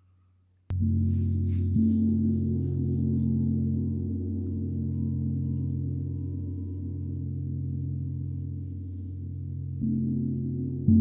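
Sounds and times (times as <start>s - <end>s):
singing bowls and gongs drone: 0.7s - 11.0s.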